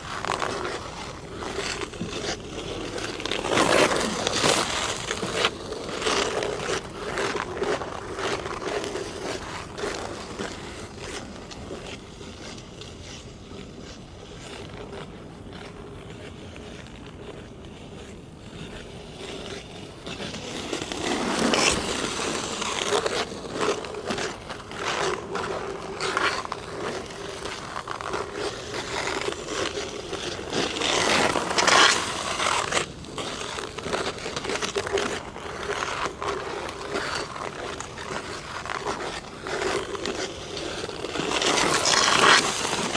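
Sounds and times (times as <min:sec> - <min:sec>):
ice skates scraping on ice: 0:00.0 - 0:42.9.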